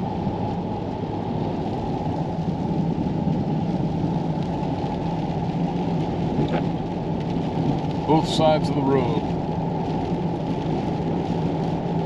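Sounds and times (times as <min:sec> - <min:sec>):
truck engine and tyre rumble: 0:00.0 - 0:12.0.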